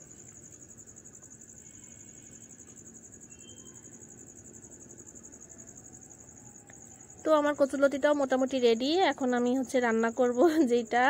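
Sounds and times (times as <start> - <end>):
cricket trilling: 0.0 - 11.0
low background hiss: 0.0 - 11.0.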